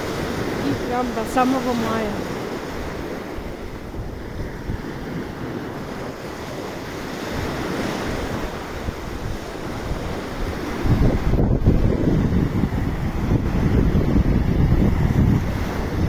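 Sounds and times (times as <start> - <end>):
sea waves washing on shore: 0.0 - 16.0
wind buffeting microphone: 0.0 - 16.0.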